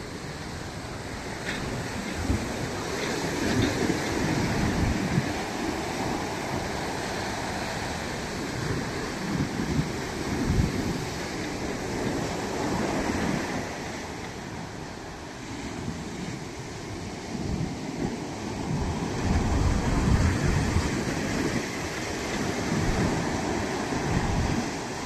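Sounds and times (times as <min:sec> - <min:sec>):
ocean waves on a beach: 0:00.0 - 0:25.0
wind gusting on microphone: 0:00.0 - 0:25.0.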